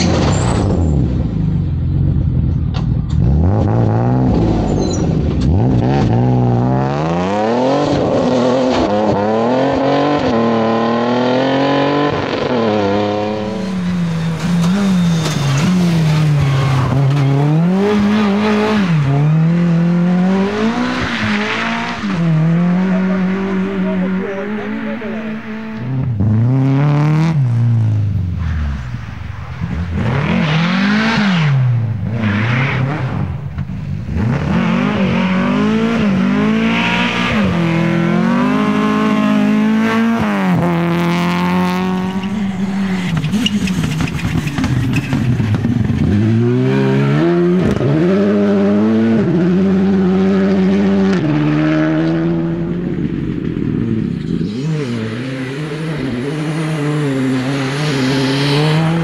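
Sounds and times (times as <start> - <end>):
rally car engine accelerating: 0.0 - 59.0.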